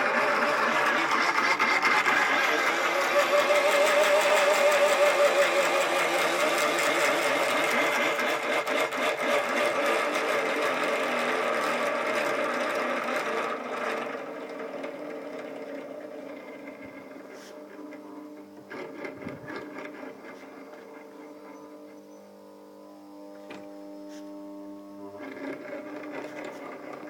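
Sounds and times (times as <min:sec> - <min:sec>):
electric motor whirring: 0:00.0 - 0:27.0.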